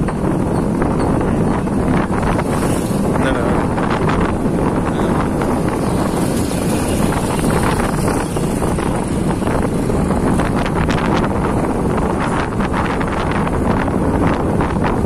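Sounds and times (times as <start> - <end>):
road noise: 0.0 - 15.0
vehicle engine: 0.0 - 15.0
wind buffeting microphone: 0.0 - 15.0.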